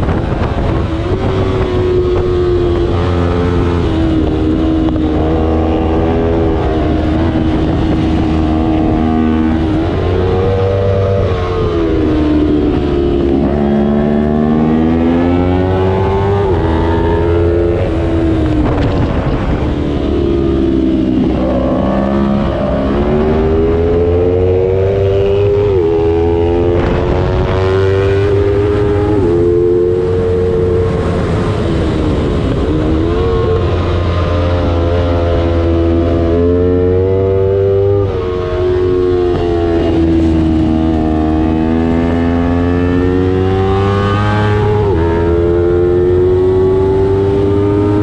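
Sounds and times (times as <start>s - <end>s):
motorcycle engine shifting gears: 0.0s - 48.0s.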